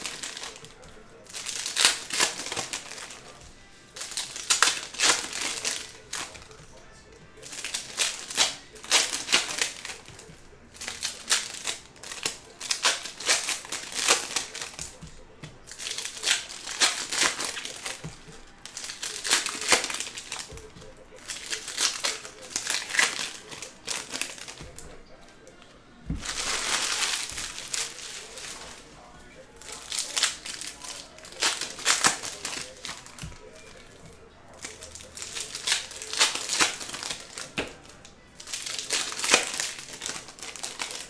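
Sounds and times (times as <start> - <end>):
foil wrappers crinkling: 0.0 - 41.0.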